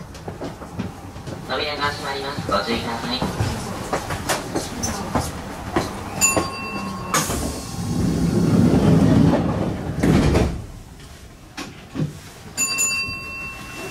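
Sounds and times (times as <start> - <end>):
train doors sliding shut: 0.0 - 13.9.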